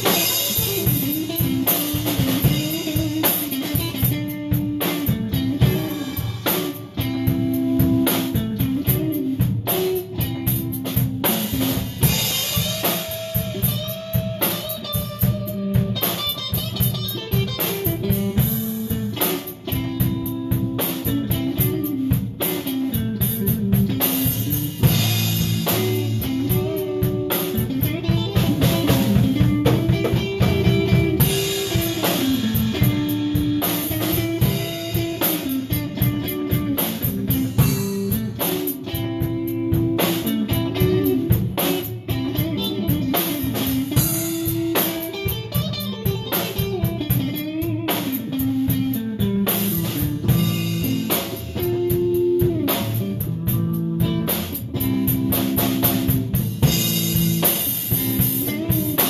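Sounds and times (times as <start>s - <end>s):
drum kit beat: 0.0s - 59.0s
electric guitar riff: 0.0s - 59.0s.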